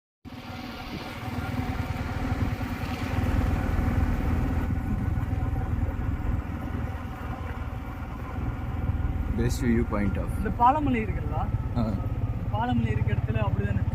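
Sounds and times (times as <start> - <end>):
motorcycle engine running: 0.2 - 13.9.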